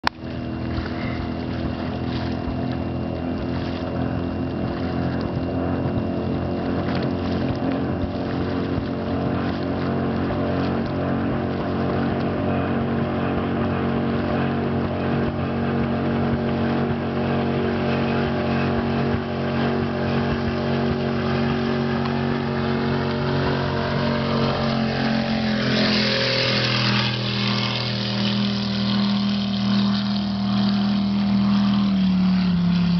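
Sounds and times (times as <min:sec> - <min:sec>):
powerboat engine drone: 0:00.0 - 0:32.9
rushing water: 0:00.0 - 0:32.9
wind: 0:00.0 - 0:32.9.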